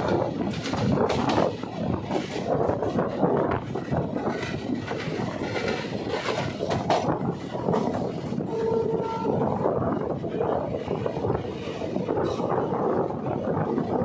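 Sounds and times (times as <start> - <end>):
train rumble and rail noise: 0.0 - 14.0.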